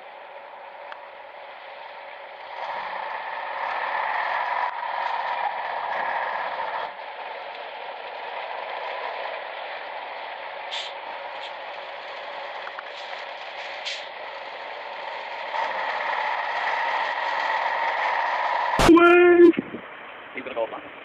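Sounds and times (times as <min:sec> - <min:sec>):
truck engine running: 0:00.0 - 0:20.4.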